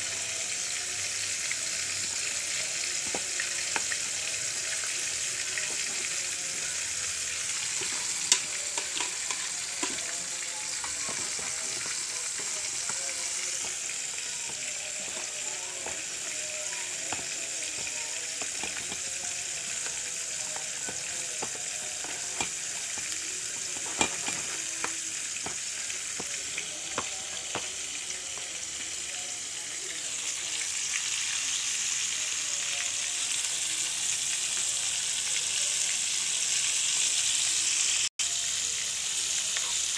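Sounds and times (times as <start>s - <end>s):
chicken deep-frying in oil: 0.0s - 39.9s.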